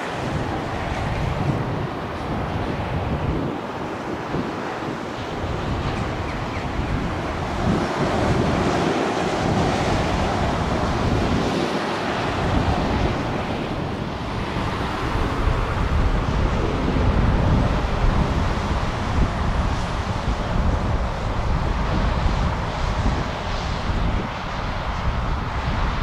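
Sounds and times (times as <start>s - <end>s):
jet airliner taxiing: 0.0s - 26.0s
wind buffeting microphone: 0.0s - 26.0s.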